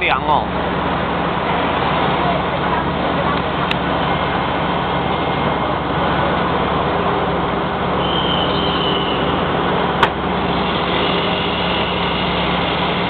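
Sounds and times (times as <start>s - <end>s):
crane diesel engine running: 0.0s - 13.0s.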